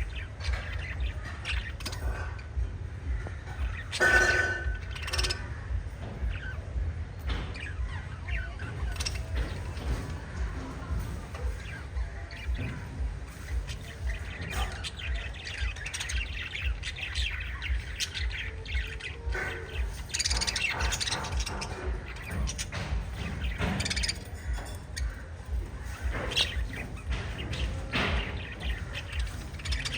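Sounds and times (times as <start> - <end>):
lovebirds chirping: 0.0 - 29.9
steady low rumble: 0.0 - 29.9.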